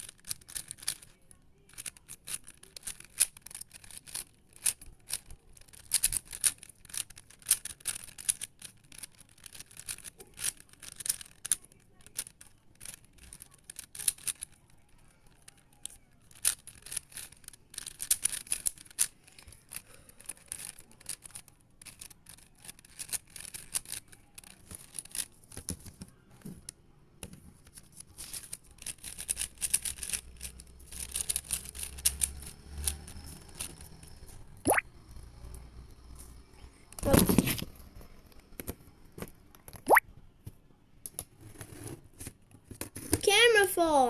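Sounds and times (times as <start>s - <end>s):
puzzle cube clicking and scraping: 0.0s - 40.0s, 41.1s - 44.0s.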